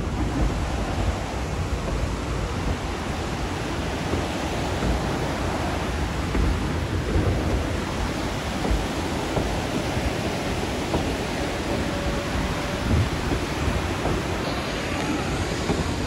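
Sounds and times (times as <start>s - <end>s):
low thumps: 0.0s - 16.0s
rushing water: 0.0s - 16.0s
train wheels rolling: 0.0s - 16.0s
wind buffeting microphone: 0.0s - 16.0s.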